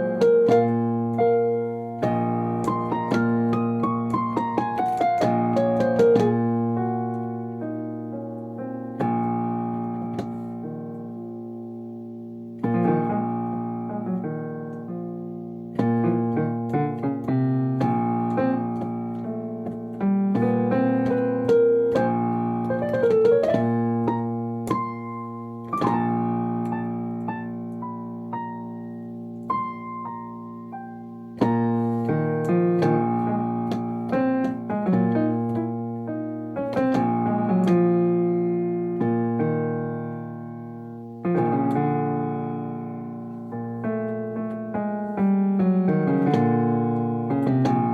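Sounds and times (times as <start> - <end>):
piano keyboard music: 0.0 - 47.9.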